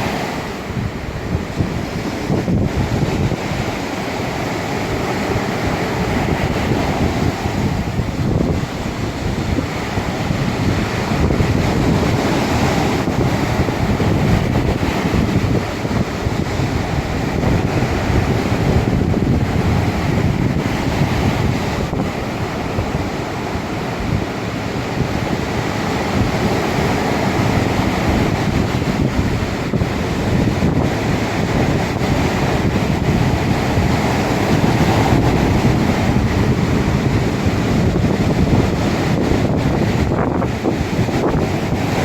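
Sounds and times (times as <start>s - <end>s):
ocean waves washing: 0.0s - 42.0s
wind rumbling on microphone: 0.0s - 42.0s.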